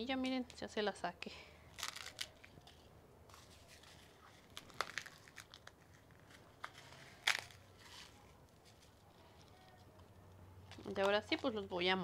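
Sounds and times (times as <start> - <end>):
dried chiles crackling and snapping: 1.6 - 12.0.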